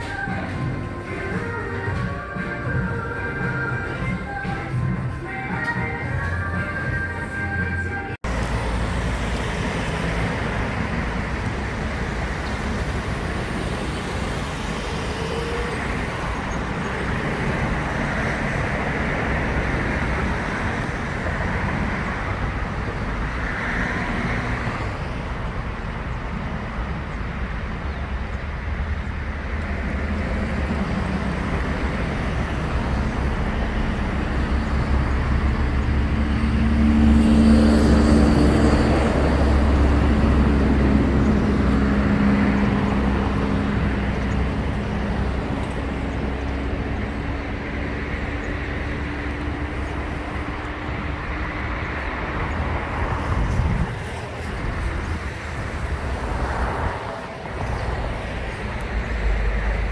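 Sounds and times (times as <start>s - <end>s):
road traffic noise: 0.0s - 59.9s
vehicle engine hum: 0.0s - 59.9s.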